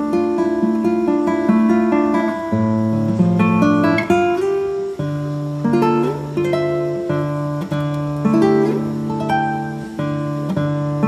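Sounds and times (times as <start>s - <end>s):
guitar playing: 0.0s - 11.0s.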